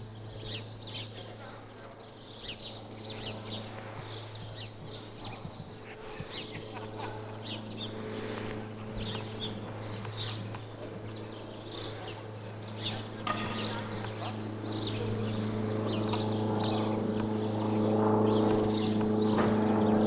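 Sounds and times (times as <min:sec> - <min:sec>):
propeller plane droning: 0:00.0 - 0:20.0
small birds chirping: 0:00.0 - 0:20.0.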